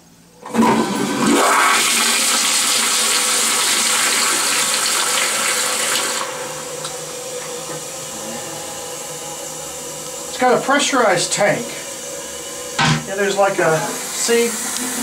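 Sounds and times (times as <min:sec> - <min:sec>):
toilet flushing: 0:00.4 - 0:15.0.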